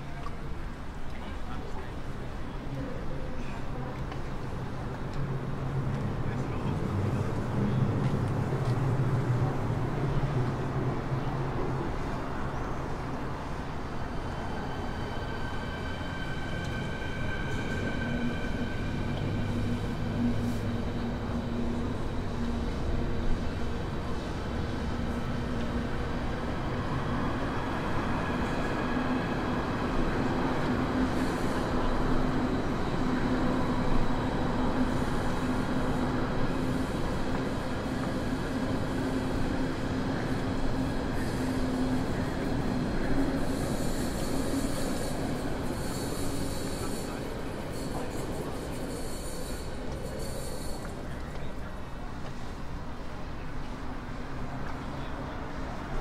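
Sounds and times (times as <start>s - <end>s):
train rumbling with low hum: 0.0s - 56.0s.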